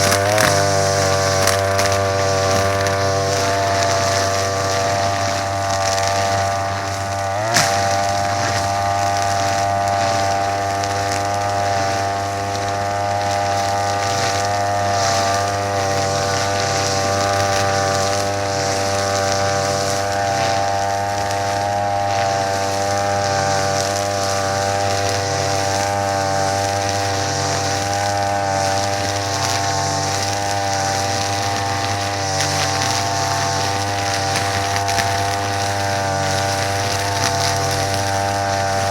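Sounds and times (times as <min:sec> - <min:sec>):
string trimmer engine running: 0:00.0 - 0:38.9.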